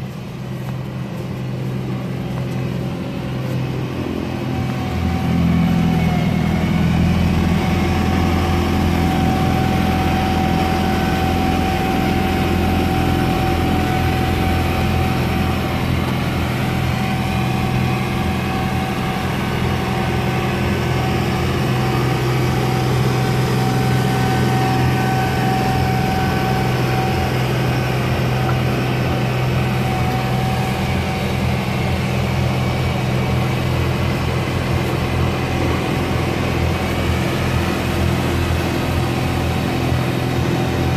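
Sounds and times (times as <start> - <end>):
diesel tractor engine under load: 0.0 - 40.9
snow blower throwing snow: 0.0 - 40.9
thin steady whine: 0.0 - 40.9.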